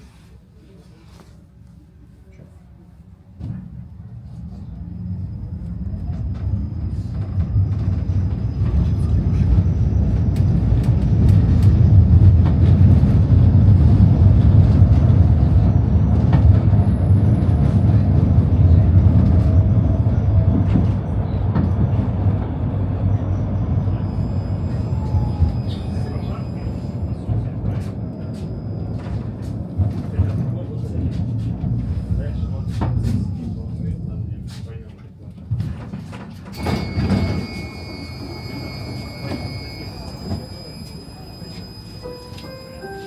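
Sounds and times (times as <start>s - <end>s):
tram rumbling on rails: 0.0s - 43.0s.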